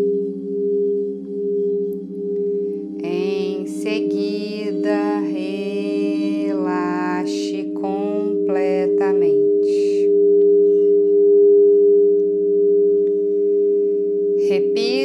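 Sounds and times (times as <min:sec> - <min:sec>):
drone of pure tones: 0:00.0 - 0:15.0.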